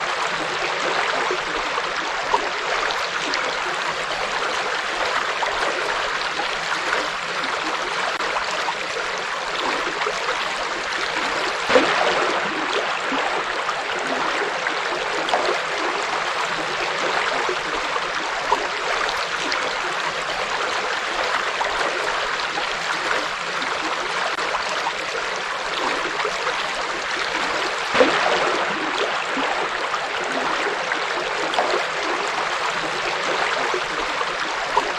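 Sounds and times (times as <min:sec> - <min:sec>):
river water flowing over stones: 0:00.0 - 0:34.9
water splashes: 0:00.0 - 0:34.9.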